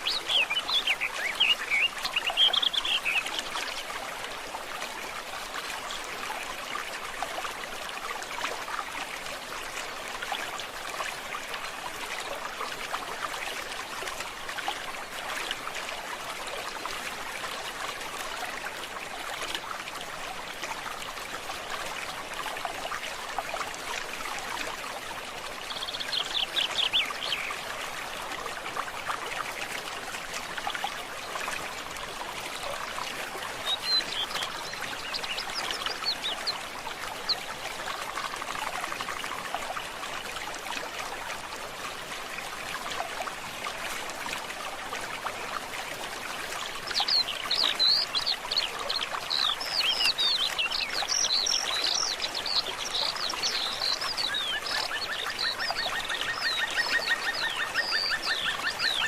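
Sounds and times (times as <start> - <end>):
stream trickling and babbling: 0.0 - 59.0.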